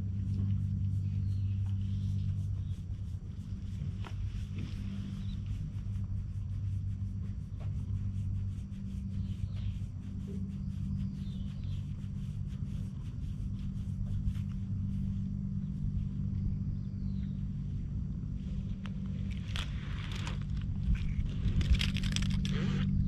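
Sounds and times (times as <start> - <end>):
fingers rustling in fur: 0.0 - 23.0.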